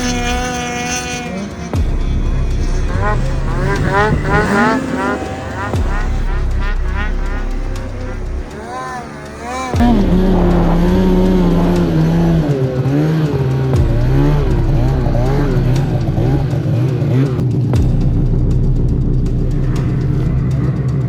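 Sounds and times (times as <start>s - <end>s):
snowmobile engine running: 0.0s - 21.0s.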